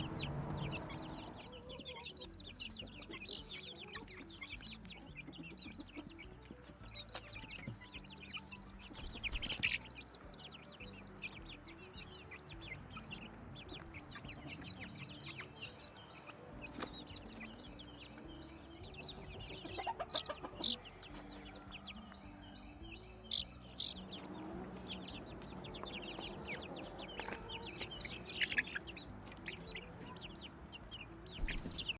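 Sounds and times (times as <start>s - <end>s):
chicks peeping: 0.0s - 31.9s.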